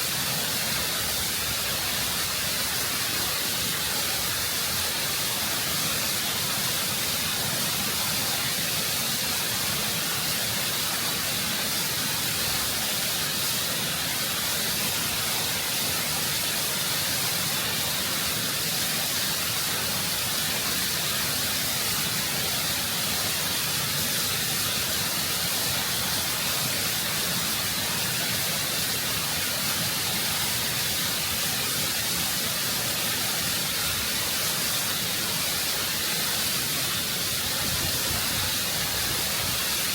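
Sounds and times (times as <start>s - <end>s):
waterfall pouring over rock: 0.0s - 39.9s.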